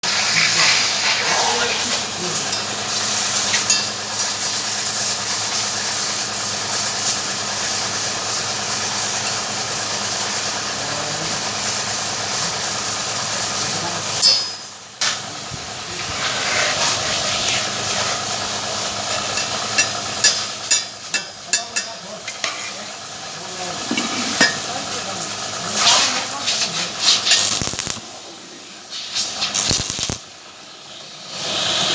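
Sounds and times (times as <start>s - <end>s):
welding arc crackling: 0.1s - 30.8s.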